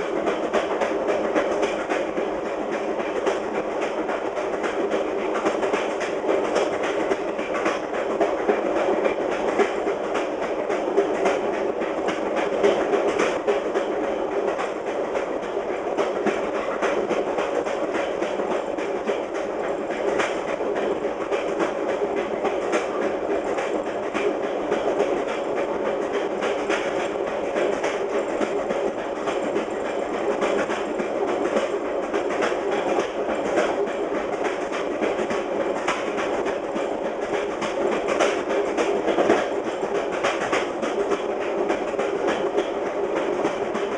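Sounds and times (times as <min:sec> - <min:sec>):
train rumble: 0:00.0 - 0:43.9
wheels clacking on rail joints: 0:00.0 - 0:43.9.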